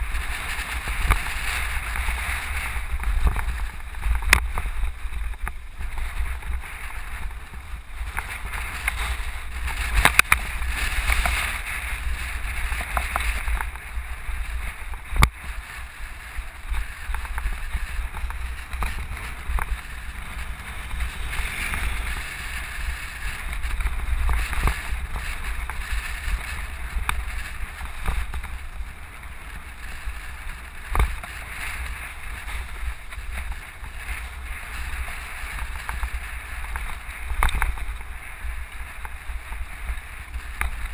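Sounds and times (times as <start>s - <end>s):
vehicle rumbling on dirt road: 0.0s - 40.9s
wind noise on microphone: 0.0s - 40.9s.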